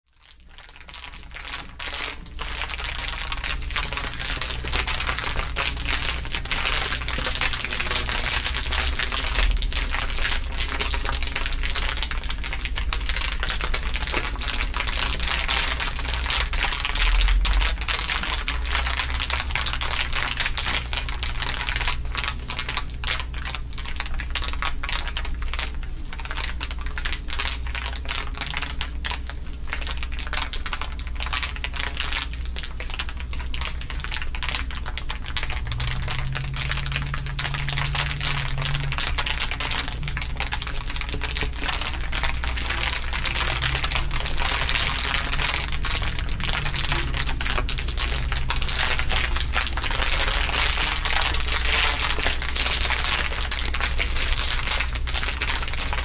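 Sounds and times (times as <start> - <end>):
dense crinkling: 0.2 - 56.0
steady low hum: 0.5 - 56.0.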